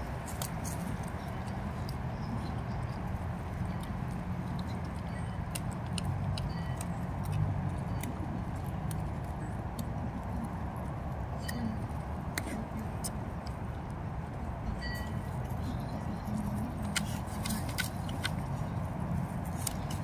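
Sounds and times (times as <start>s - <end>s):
puppies chewing in dry leaves: 0.0s - 20.0s.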